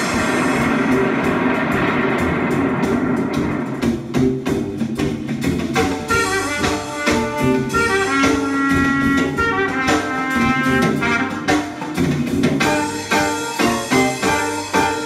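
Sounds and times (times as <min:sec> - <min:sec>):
jazz music with brass and drums: 0:00.0 - 0:15.0.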